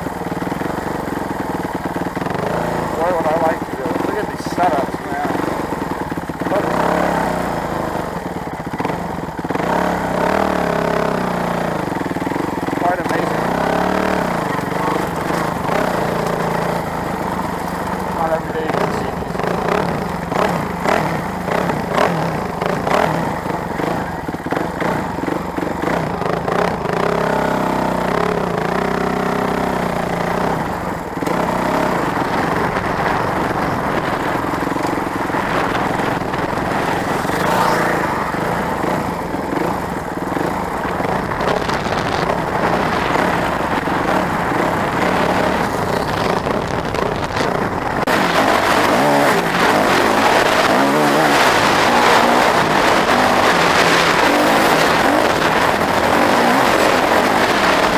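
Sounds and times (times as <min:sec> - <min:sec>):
motorcycle engines revving: 0:00.0 - 0:57.9.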